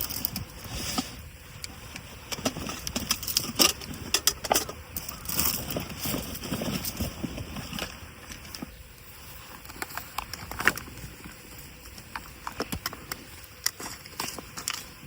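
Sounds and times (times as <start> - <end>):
rustling and handling noises: 0.0 - 15.0.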